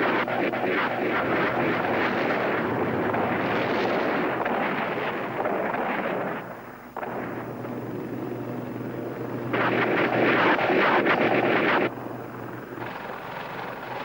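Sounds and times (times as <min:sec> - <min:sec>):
helicopter humming: 0:00.0 - 0:14.0.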